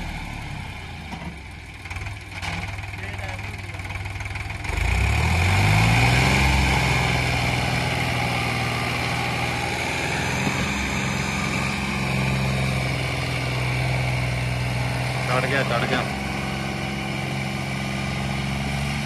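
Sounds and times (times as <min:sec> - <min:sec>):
tractor diesel engine revving: 0:00.0 - 0:19.0.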